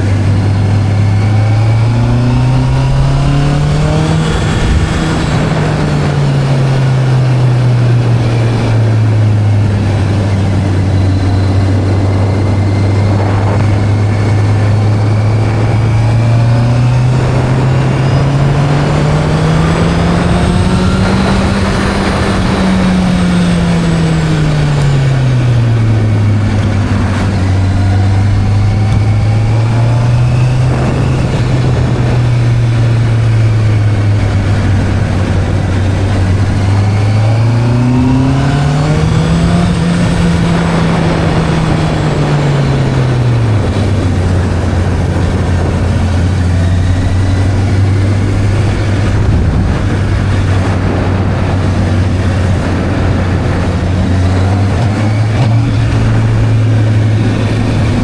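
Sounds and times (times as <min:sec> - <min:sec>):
motorcycle engine running: 0:00.0 - 0:58.0
steady rushing noise: 0:00.0 - 0:58.0.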